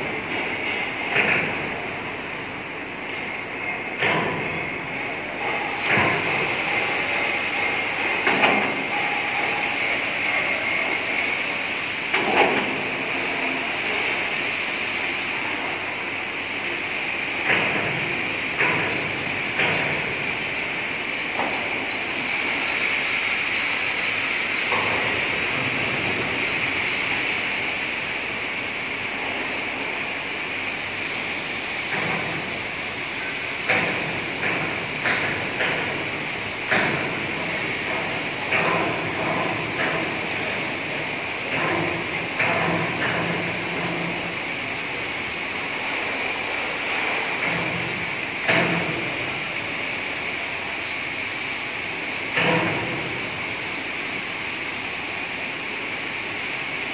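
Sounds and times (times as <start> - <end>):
steady hiss: 0.1 - 56.9.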